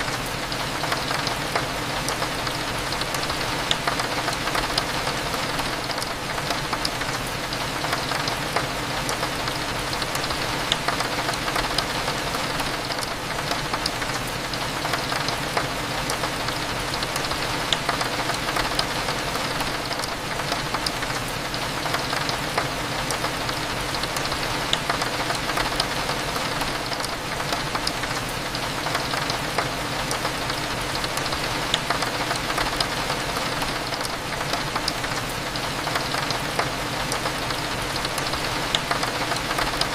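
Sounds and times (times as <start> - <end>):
rain drops ticking on window: 0.0 - 39.9.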